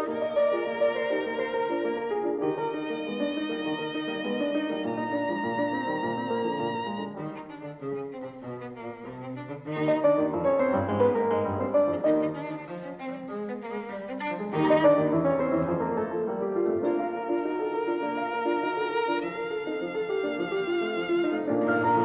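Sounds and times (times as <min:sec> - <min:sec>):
instrumental music of sustained notes: 0:00.0 - 0:22.0.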